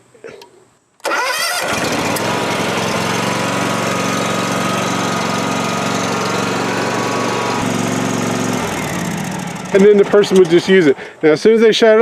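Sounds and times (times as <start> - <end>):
lawn tractor engine running: 1.0 - 11.2.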